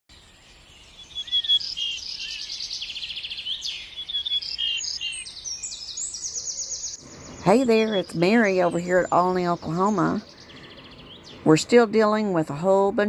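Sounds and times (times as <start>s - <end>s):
songbirds singing and calling: 0.1s - 13.0s.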